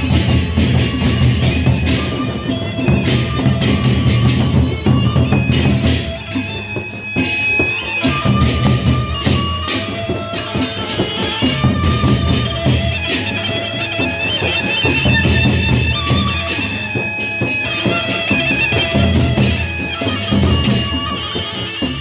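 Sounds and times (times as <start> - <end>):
hand cymbals clashing: 0.0 - 22.0.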